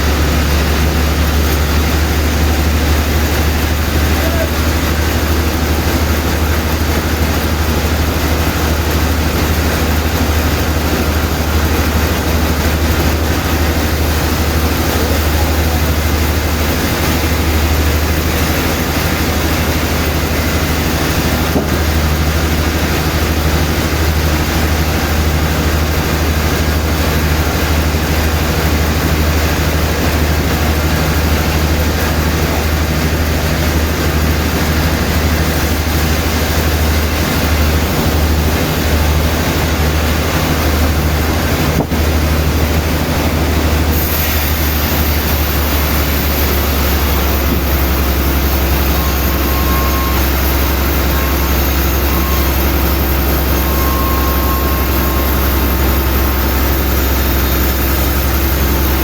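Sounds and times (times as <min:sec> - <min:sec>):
sawmill machinery low drone: 0:00.0 - 0:59.0.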